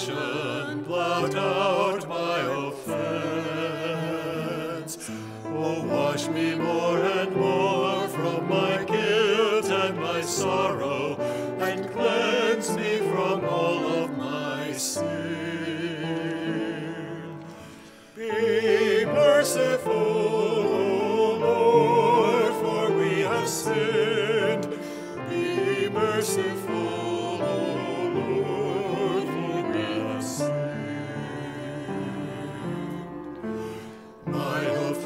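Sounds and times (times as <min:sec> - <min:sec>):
mixed choir singing: 0:00.0 - 0:35.0.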